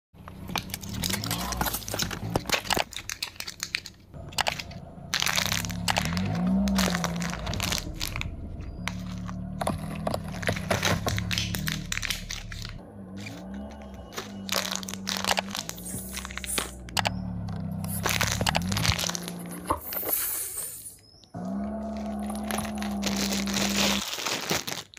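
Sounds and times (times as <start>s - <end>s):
tyre crushing cans: 0.2s - 20.5s, 21.4s - 24.9s
soft objects squashing: 0.3s - 24.9s.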